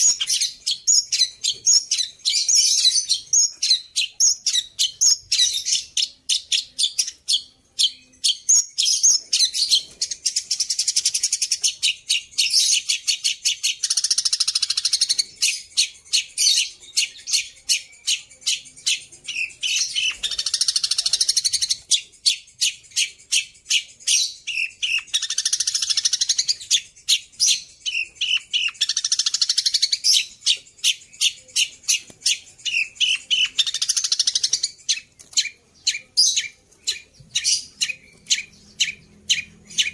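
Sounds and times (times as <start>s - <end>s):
shrike singing: 0.0s - 39.9s.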